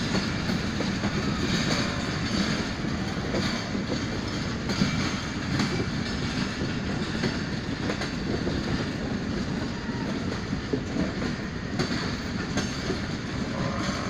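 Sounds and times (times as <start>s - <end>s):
train coaches rolling past: 0.0s - 14.0s
wheels clicking over rail joints: 0.0s - 14.0s.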